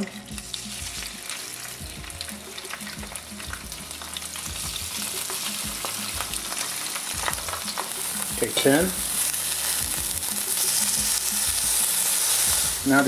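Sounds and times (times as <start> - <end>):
fish sizzling in a frying pan: 0.0 - 13.0
oil crackling and popping: 0.0 - 13.0.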